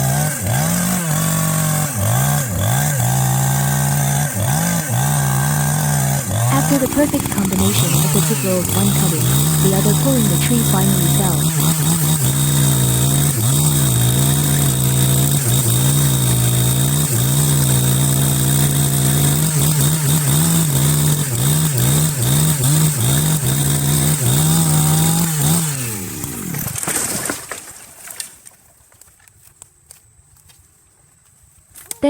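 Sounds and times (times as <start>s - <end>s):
chainsaw engine running: 0.0s - 27.4s.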